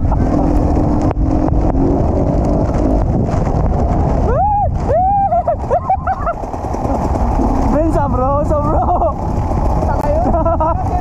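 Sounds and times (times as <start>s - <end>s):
dirt bike engine running: 0.0s - 11.0s
wind rushing on microphone: 0.0s - 11.0s.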